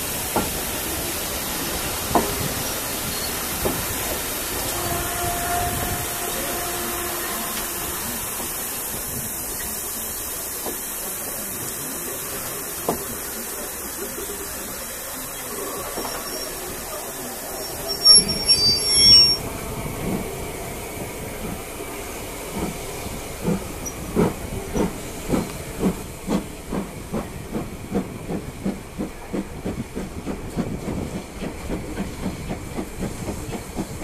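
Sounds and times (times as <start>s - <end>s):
train coaches rolling past: 0.0s - 34.0s.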